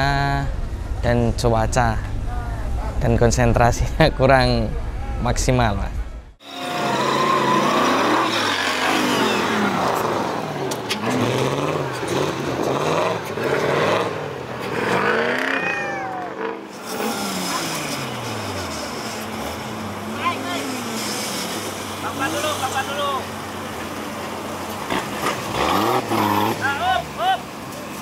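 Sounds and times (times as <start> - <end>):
buggy engines revving: 0.0 - 28.0.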